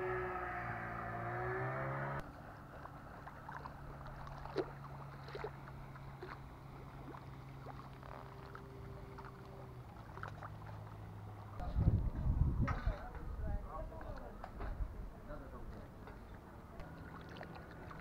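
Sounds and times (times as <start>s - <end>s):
motorboat engine humming: 0.0s - 12.4s, 13.1s - 18.0s.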